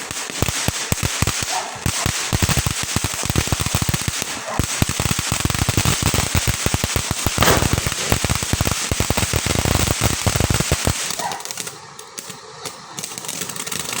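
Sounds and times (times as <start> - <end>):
fountain firework crackling: 0.0 - 14.0.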